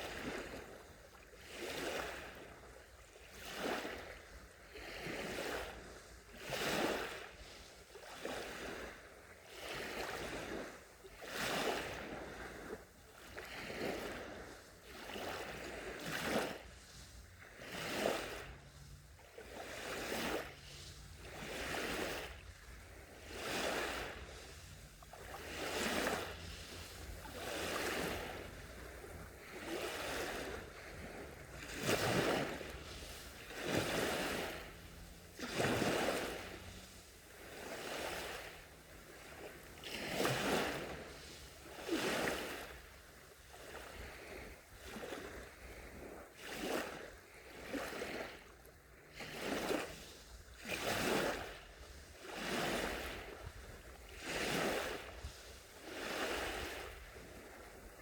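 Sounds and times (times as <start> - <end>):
small waves breaking on shore: 0.0 - 58.0.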